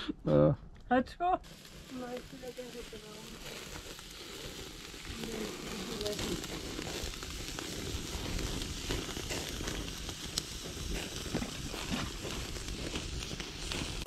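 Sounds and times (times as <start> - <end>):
wood fire crackling: 0.8 - 14.0.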